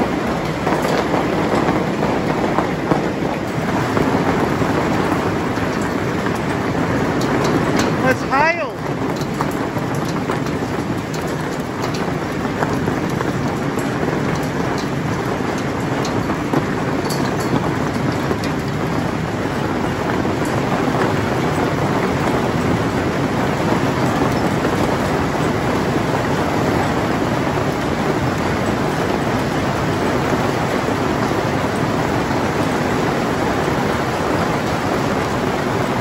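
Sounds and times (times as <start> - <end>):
heavy rain pouring: 0.0 - 36.0
sharp ticks of hail: 0.0 - 36.0.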